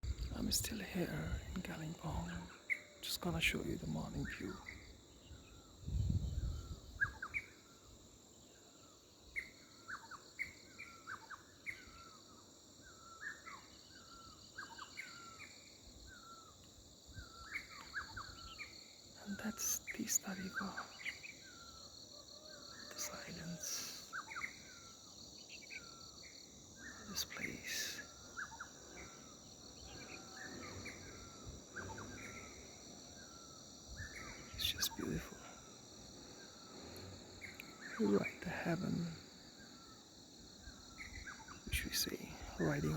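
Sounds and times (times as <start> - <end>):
pulsing insect chorus: 0.0 - 42.9
small birds chirping: 0.0 - 42.9.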